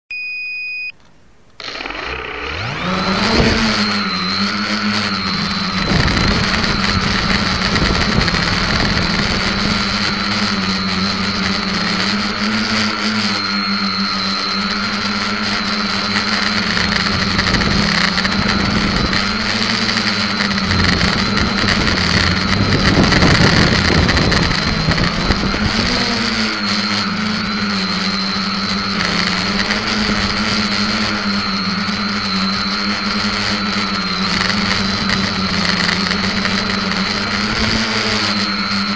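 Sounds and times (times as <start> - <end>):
quadcopter motors buzzing: 1.6 - 38.9.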